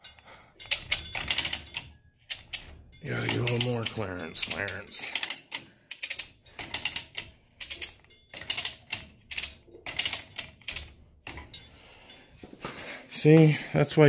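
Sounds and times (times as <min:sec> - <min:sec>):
chain hoist ratchet clicks: 0:00.0 - 0:11.8.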